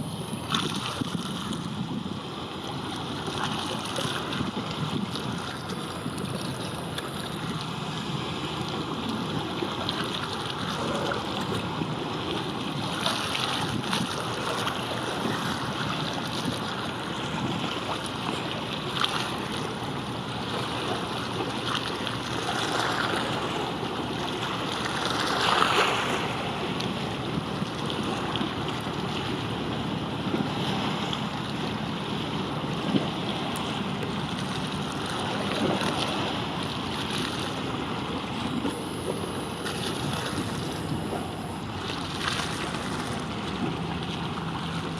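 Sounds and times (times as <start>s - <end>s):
water noise: 0.0s - 44.9s
wind: 0.0s - 44.9s.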